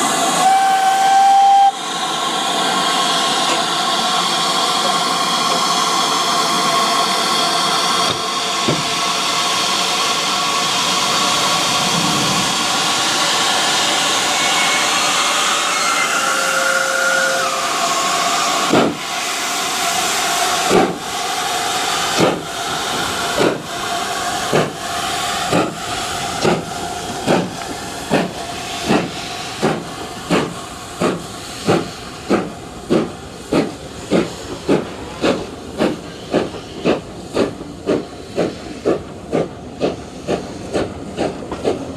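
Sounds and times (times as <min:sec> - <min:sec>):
steam locomotive hissing: 0:00.0 - 0:41.9.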